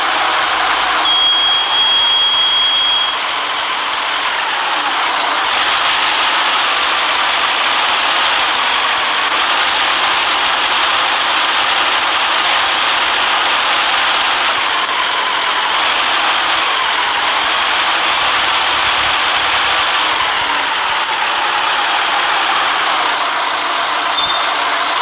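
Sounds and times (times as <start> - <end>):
city bus engine and road noise: 0.0 - 25.0.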